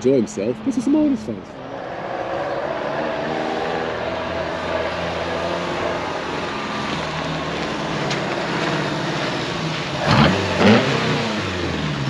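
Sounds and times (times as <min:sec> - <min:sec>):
car engine running and revving: 0:00.0 - 0:12.0.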